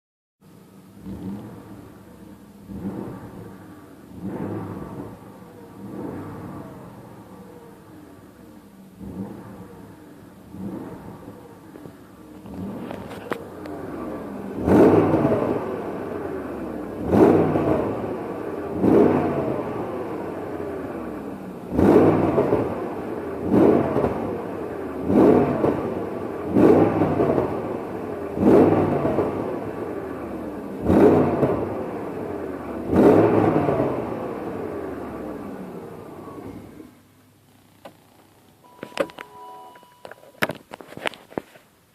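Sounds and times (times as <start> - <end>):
car engine revving: 0.6 - 37.0.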